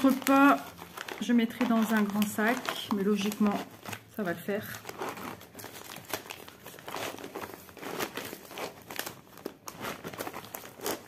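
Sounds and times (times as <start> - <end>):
packaging pouch rustling: 0.0 - 11.0.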